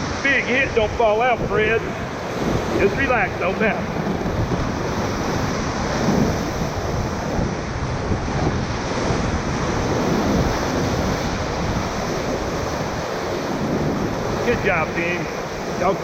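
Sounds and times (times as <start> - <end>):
whitewater rushing: 0.0 - 16.0
wind buffeting microphone: 0.0 - 16.0.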